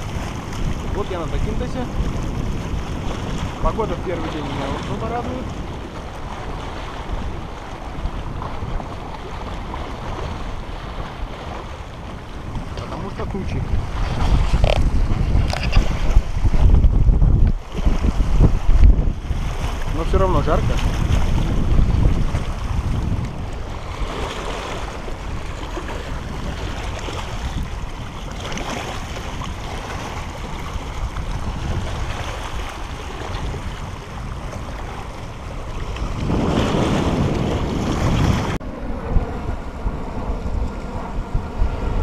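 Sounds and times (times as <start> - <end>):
waves washing over rocks: 0.0 - 38.6
wind on microphone: 0.0 - 42.0.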